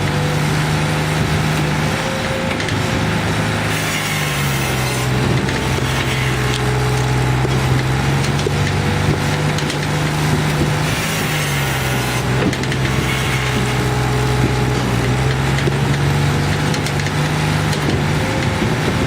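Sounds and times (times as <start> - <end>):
firewood processor humming: 0.0 - 19.0
logs cracking and splitting: 0.0 - 19.0.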